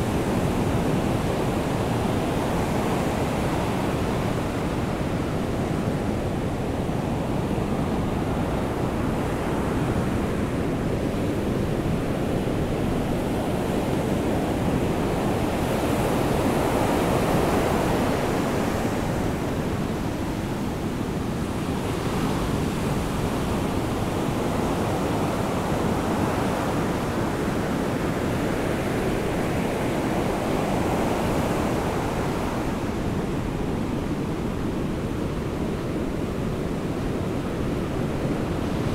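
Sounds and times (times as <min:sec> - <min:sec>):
ocean surf on beach: 0:00.0 - 0:38.9.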